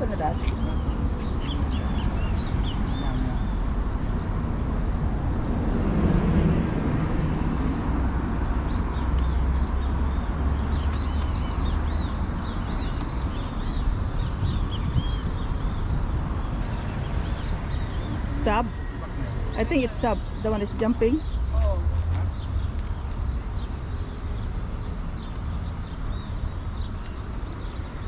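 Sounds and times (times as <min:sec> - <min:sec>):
small birds chirping: 0:00.0 - 0:04.8, 0:08.7 - 0:28.0.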